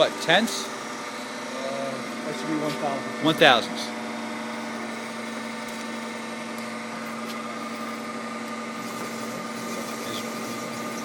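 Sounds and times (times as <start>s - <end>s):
high machine tone: 0.0s - 11.0s
lathe machine hum and whine: 0.0s - 11.0s.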